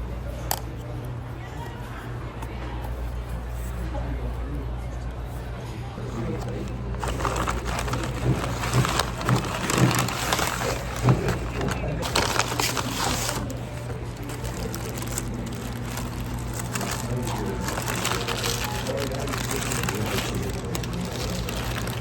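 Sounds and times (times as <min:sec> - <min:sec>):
indistinct murmur of voices: 0:00.0 - 0:22.0.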